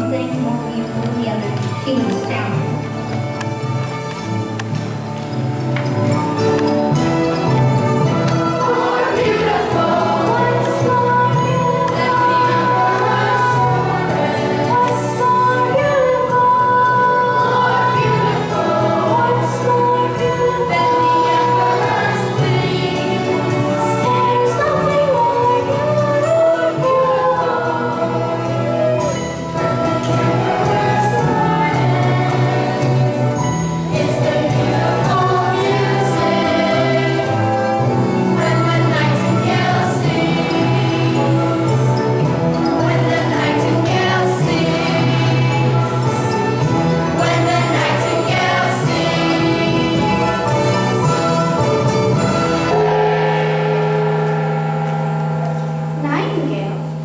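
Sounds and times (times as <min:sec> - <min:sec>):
steady musical accompaniment: 0:00.0 - 0:57.0
voices singing sustained notes: 0:06.4 - 0:57.0.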